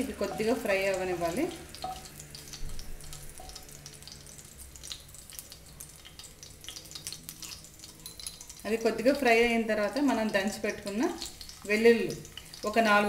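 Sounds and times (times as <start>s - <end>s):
chillies sizzling in oil: 0.0s - 13.0s.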